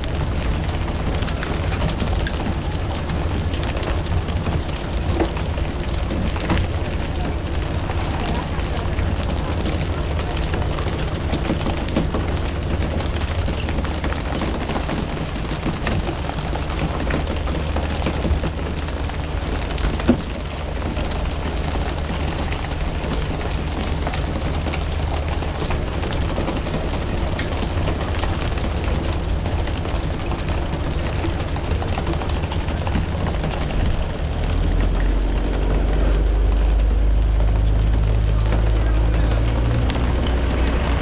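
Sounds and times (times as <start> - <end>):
boat engine droning: 0.0 - 41.0.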